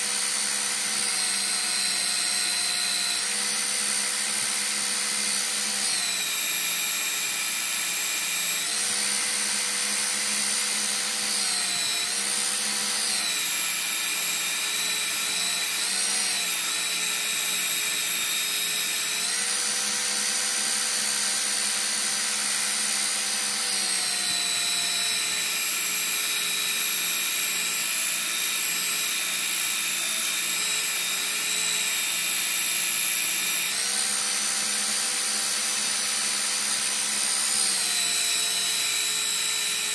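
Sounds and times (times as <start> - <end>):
belt sander running: 0.0 - 39.9.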